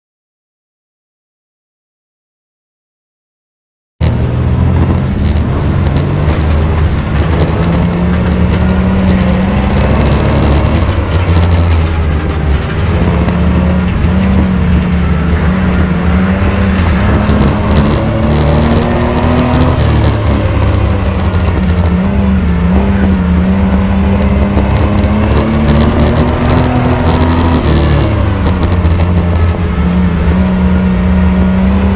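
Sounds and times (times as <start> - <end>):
race truck engine running hard: 4.0 - 31.9.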